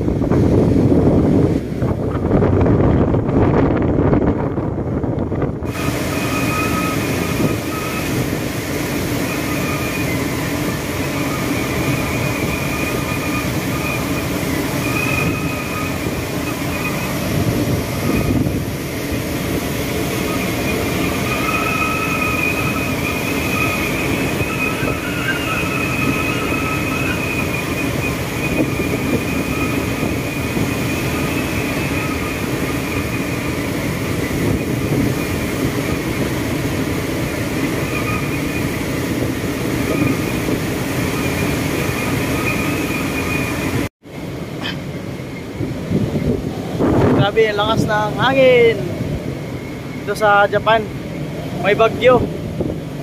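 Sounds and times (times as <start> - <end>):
wind rumbling on microphone: 0.0 - 53.0
wind whistling through rigging: 0.0 - 53.0.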